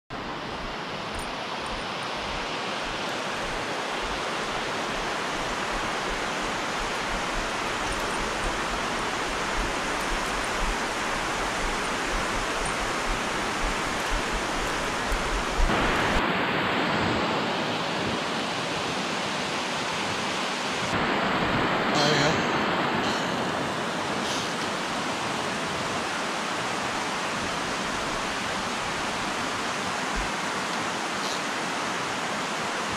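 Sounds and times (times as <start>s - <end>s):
water rushing over a spillway: 0.2s - 32.9s.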